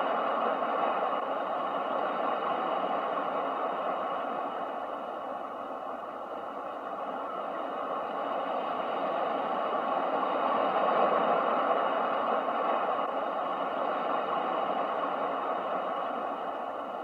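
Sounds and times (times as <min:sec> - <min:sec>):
ocean surf rushing: 0:00.0 - 0:17.0.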